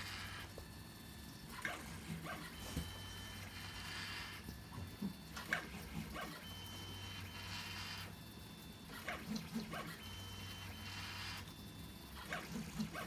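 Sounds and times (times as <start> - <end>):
three d printer motors whining: 0.0 - 13.0.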